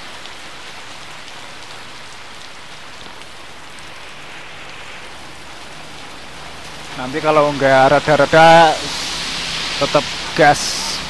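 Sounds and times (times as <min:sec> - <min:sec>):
heavy rain on wet road: 0:00.0 - 0:11.0.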